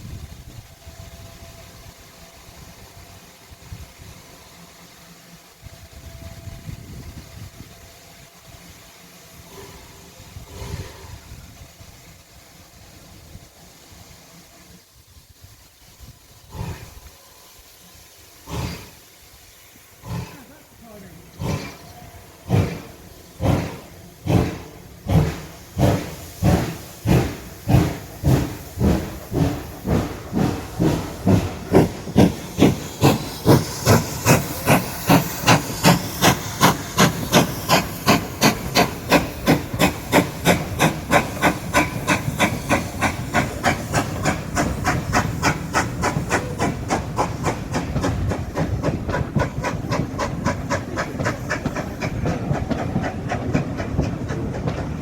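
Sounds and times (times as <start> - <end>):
steam hissing: 0.0 - 55.0
steam locomotive exhaust chuffs: 0.0 - 55.0.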